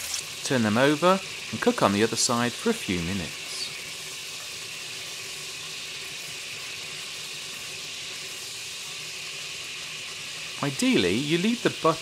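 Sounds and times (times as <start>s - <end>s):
chicken sizzling in butter: 0.0s - 12.0s.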